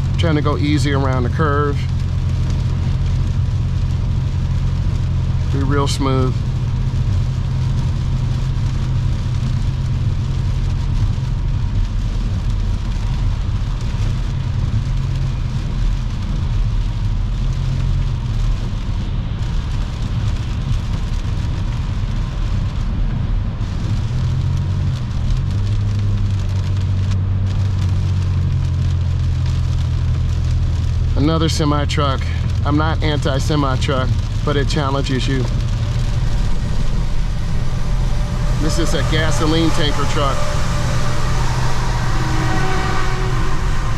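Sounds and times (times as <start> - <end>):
car engine and tyres droning: 0.0 - 43.9
wet tyres and rain hissing: 0.0 - 43.9.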